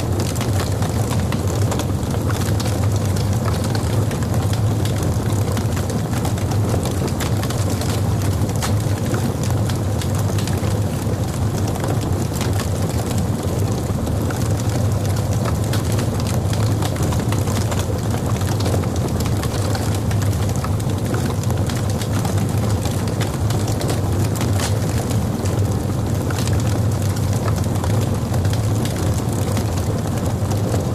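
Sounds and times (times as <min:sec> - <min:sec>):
fire crackling and popping: 0:00.0 - 0:30.9
low rumble of flames: 0:00.0 - 0:30.9.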